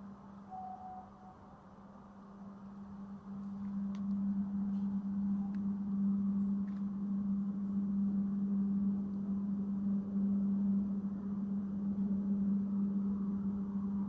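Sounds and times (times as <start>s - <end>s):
train carriage hum and rumble: 0.0s - 14.0s.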